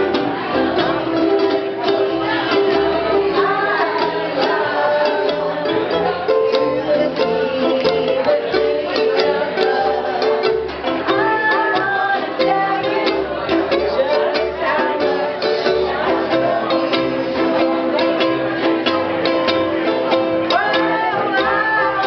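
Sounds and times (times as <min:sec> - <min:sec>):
group of voices singing: 0:00.0 - 0:22.0
ukuleles strummed: 0:00.0 - 0:22.0
upright bass: 0:00.0 - 0:22.0.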